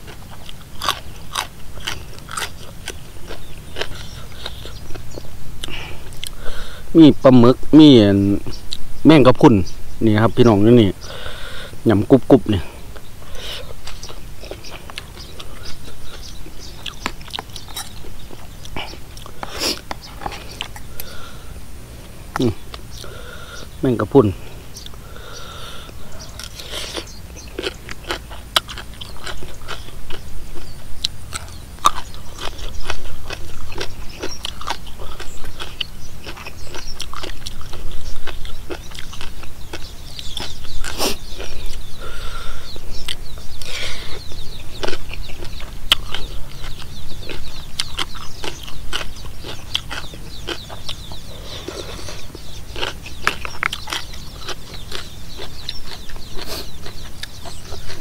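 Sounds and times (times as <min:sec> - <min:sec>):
person chewing crunchy food: 0:00.0 - 0:07.0, 0:10.4 - 0:58.0.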